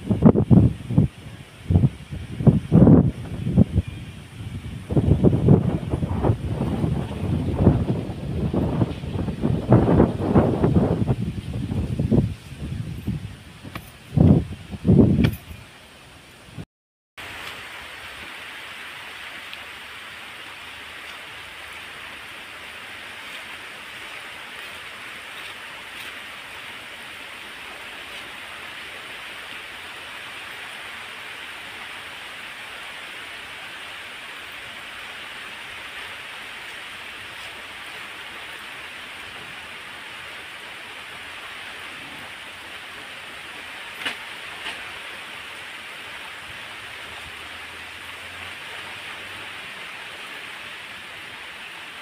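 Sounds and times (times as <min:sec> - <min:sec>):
heavy rain falling: 0:00.0 - 0:15.1, 0:17.2 - 0:52.0.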